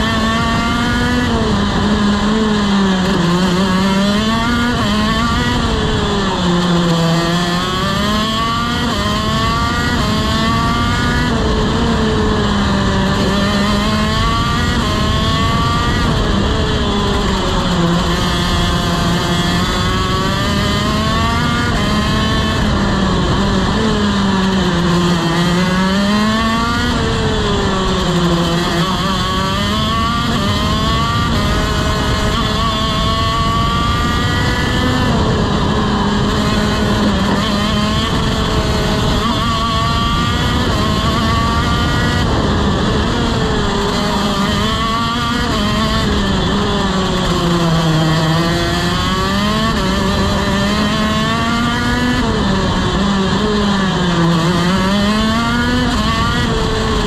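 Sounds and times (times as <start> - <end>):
two-stroke kart engine racing: 0.0 - 57.0.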